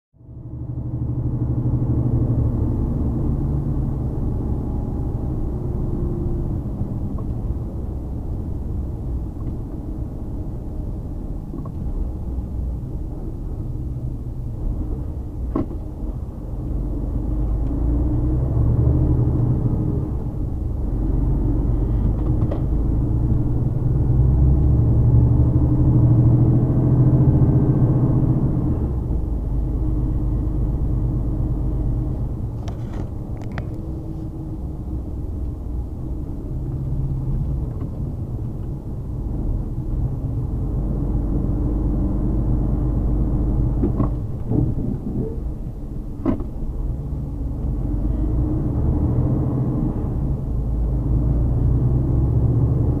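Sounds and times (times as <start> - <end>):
road rumble: 0.1 - 53.0.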